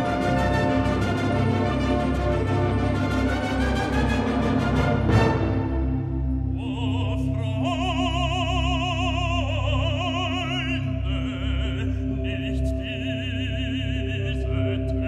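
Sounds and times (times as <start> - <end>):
operatic background music: 0.0 - 15.0.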